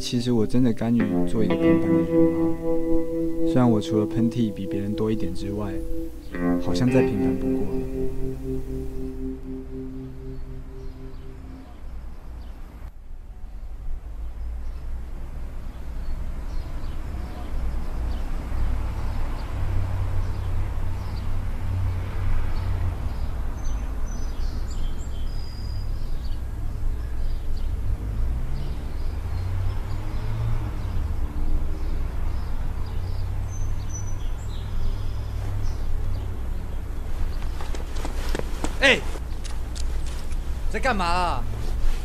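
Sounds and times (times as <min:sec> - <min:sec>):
low rumble of traffic: 0:07.0 - 0:42.0.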